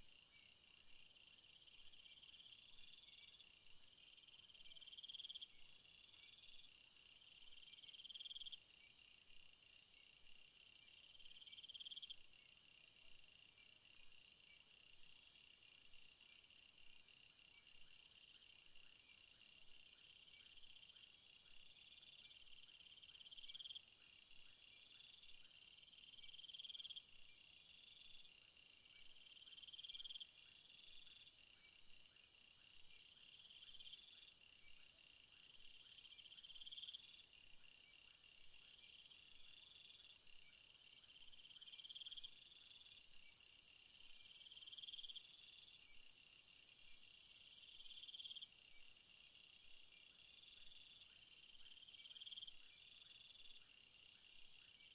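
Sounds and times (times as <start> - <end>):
insects chirping: 0.0 - 18.6, 19.2 - 54.9.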